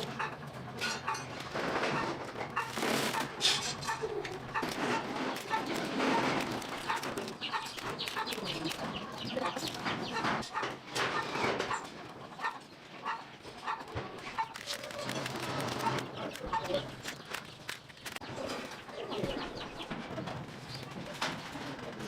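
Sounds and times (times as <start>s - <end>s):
chickens clucking: 0.0s - 17.6s, 18.2s - 22.0s.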